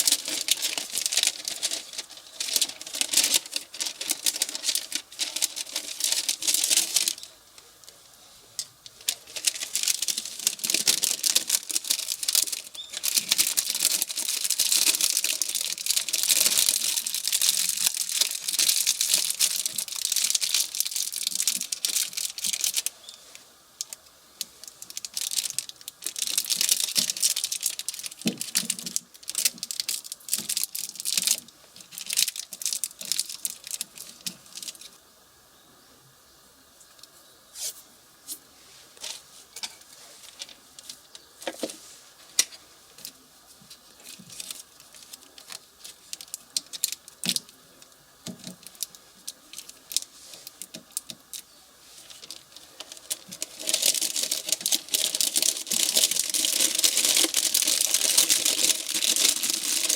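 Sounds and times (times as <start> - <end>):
rough tearing and crackling: 0.0 - 7.7, 8.6 - 35.0, 42.4 - 59.9.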